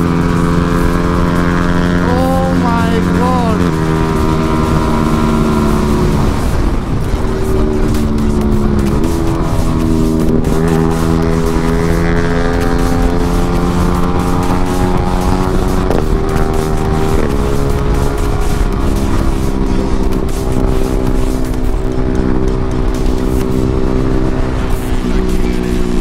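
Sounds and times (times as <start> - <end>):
low wind rumble: 0.0 - 26.0
motorcycle engine running: 0.0 - 26.0.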